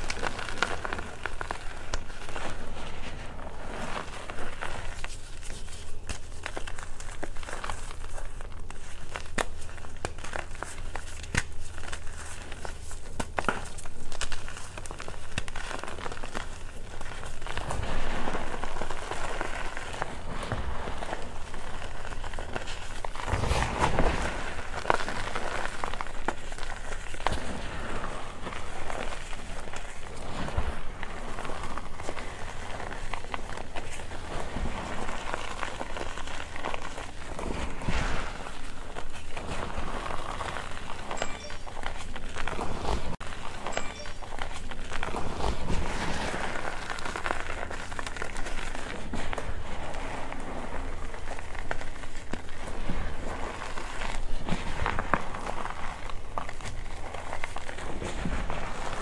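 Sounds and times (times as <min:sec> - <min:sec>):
chalk crunching and crackling: 0:00.0 - 0:59.0
chalk powder sifting through fingers: 0:00.0 - 0:59.0.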